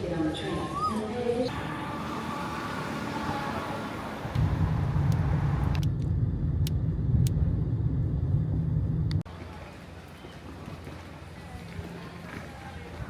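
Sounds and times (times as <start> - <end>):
vehicle engine rumbling: 1.5 - 13.0.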